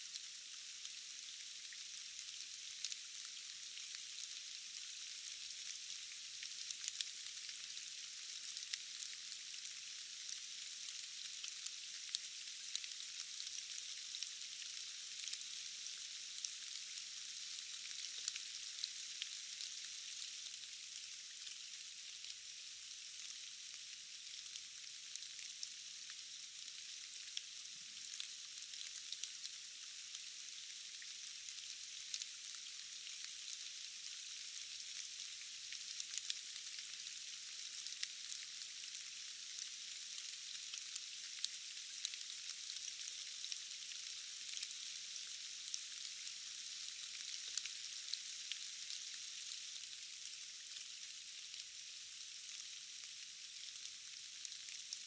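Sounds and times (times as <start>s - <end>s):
rain hiss: 0.0s - 55.0s.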